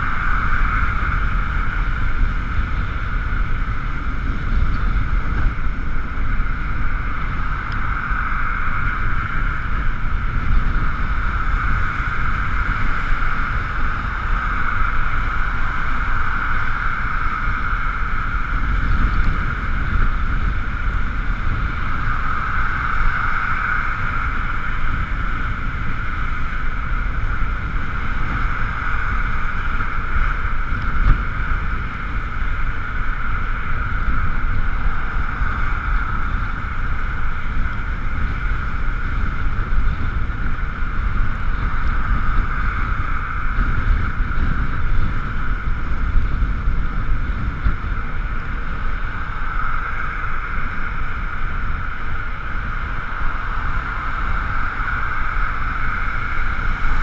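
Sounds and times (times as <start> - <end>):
constant high whine: 0.0 - 57.0
road rumble: 0.0 - 57.0
wind buffeting camera: 0.0 - 57.0.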